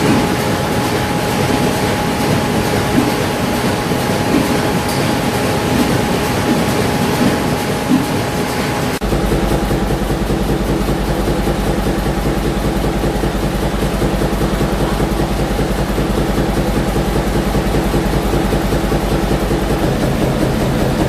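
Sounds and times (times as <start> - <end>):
deep rhythmic engine beat: 0.0 - 21.0
large engines clattering: 0.0 - 21.0.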